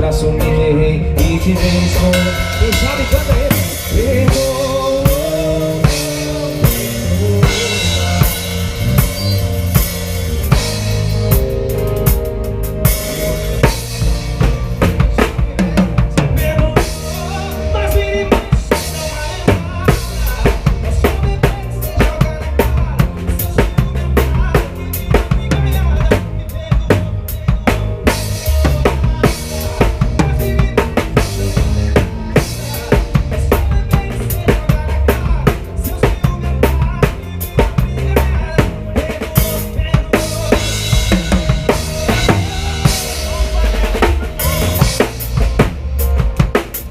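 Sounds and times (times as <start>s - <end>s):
drum kit playing: 0.0s - 46.9s
low bass line: 0.0s - 46.9s.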